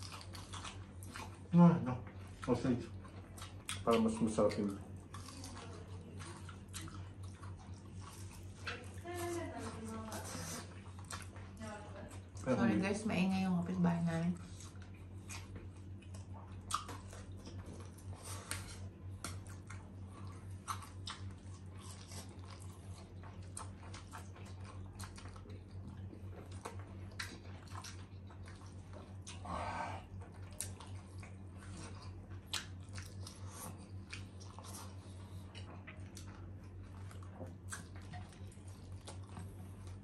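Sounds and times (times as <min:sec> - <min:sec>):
chewing with mouth noises: 0:00.0 - 0:40.0
steady low hum: 0:00.0 - 0:40.0.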